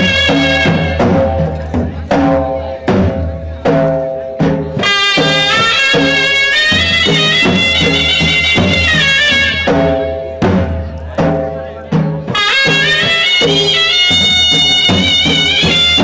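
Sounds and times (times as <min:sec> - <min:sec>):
folk melody: 0:00.0 - 0:16.0
high reedy held melody line: 0:00.0 - 0:16.0
steady drum beat: 0:00.0 - 0:16.0.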